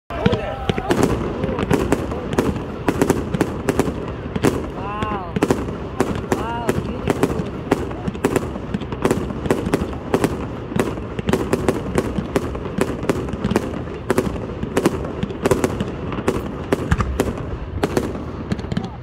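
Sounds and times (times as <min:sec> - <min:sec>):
fireworks bangs: 0:00.1 - 0:19.0.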